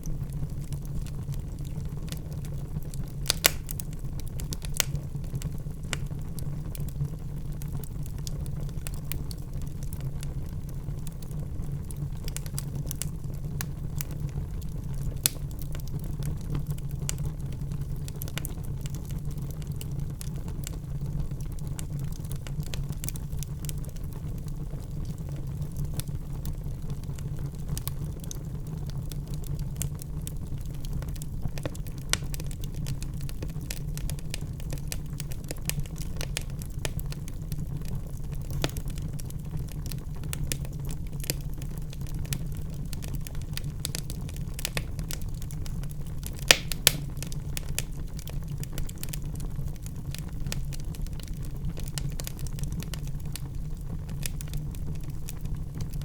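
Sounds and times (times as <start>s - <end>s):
low rumble of flame: 0.0s - 56.0s
wood fire crackling and popping: 0.0s - 56.0s.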